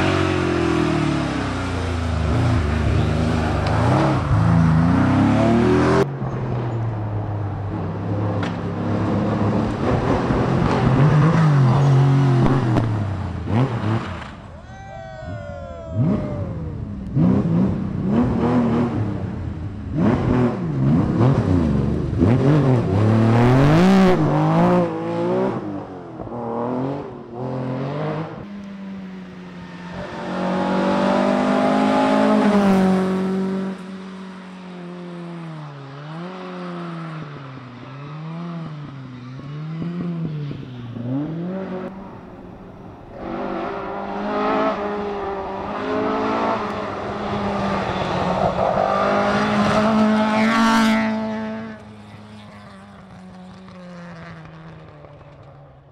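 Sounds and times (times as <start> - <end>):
rally car engines revving: 0.0 - 14.5, 15.4 - 55.9.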